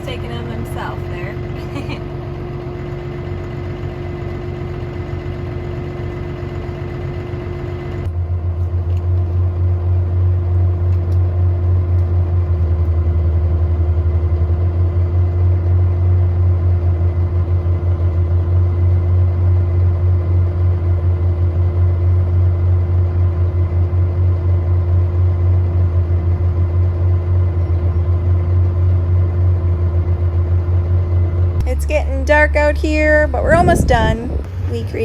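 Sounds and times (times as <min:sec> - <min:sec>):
heavy machinery engine running: 0:00.0 - 0:35.0.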